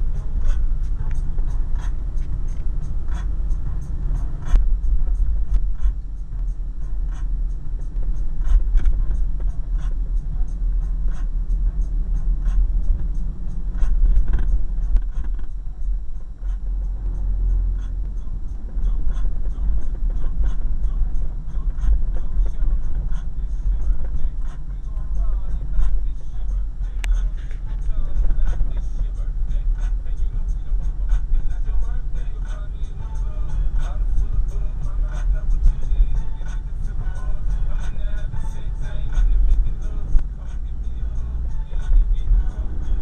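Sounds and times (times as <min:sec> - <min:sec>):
car driving rumble from inside: 0:00.0 - 0:43.0.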